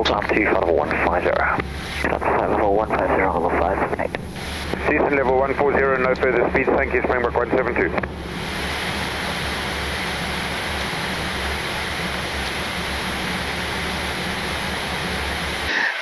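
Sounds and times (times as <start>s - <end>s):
rushing airflow: 0.9s - 15.7s.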